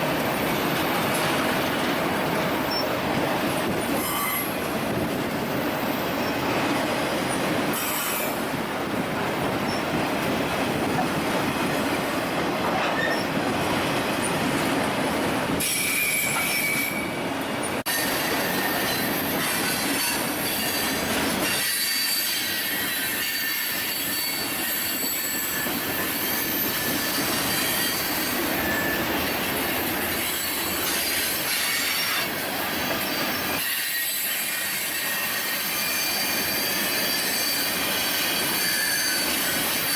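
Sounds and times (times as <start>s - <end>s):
train wheels squealing on rails: 0.0s - 11.9s, 12.5s - 39.9s
rumble of train cars: 0.0s - 39.9s.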